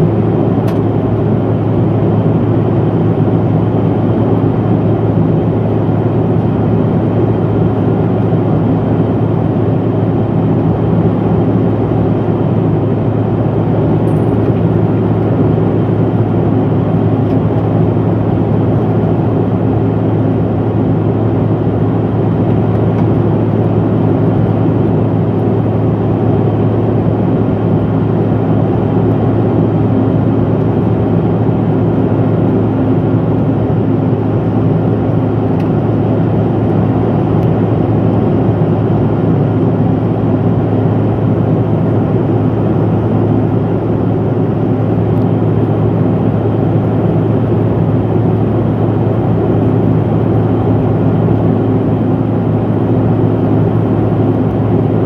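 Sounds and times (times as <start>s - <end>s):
jet cabin roar: 0.0s - 55.0s
low hum: 0.0s - 55.0s.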